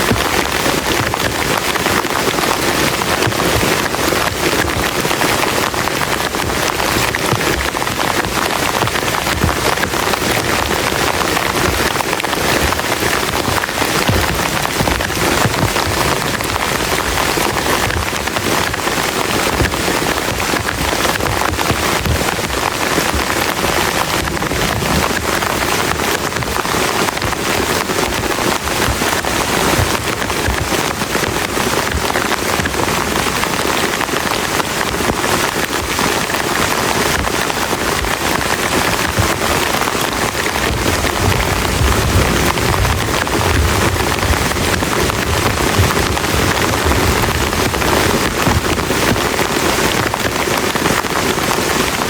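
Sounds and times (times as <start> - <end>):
heavy rain on a plastic tarp: 0.0 - 52.0.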